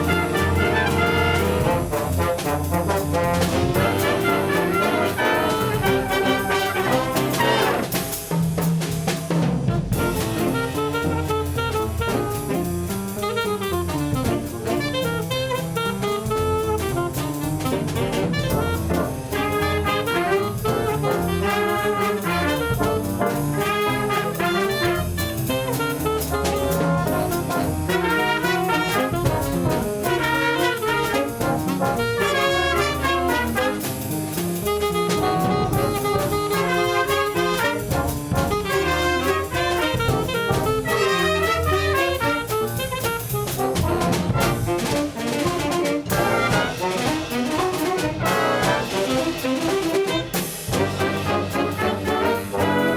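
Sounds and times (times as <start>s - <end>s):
drum kit: 0.0s - 52.9s
instrumental jazz with brass: 0.0s - 52.9s.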